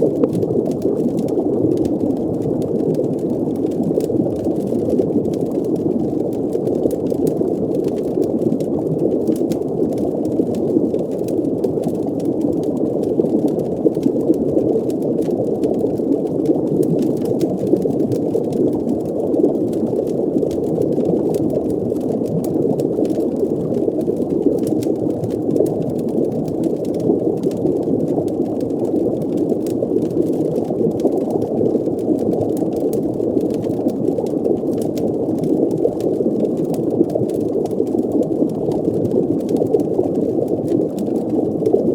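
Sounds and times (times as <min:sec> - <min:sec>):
faint crackles: 0:00.0 - 0:41.9
muffled underwater bubbling drone: 0:00.0 - 0:41.9.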